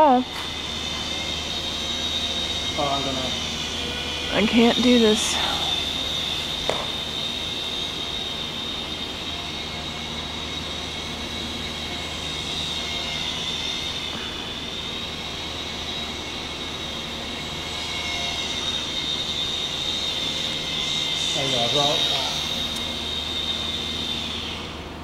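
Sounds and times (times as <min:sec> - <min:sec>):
small electric motor whine: 0:00.0 - 0:25.0.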